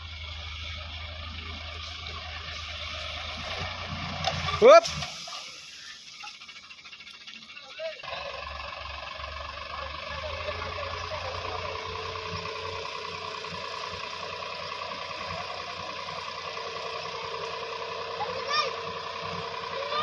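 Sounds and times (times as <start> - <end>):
steady engine whine: 0.0 - 20.0
tractor diesel engine running: 0.0 - 20.0.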